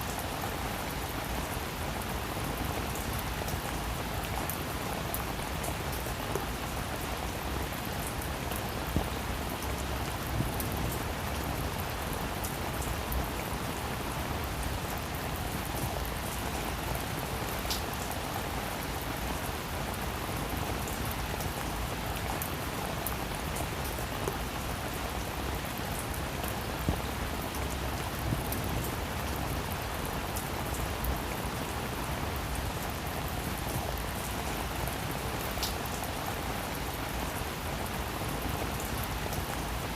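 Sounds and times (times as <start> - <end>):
heavy rain falling: 0.0 - 39.9
raindrops pattering: 0.0 - 39.9.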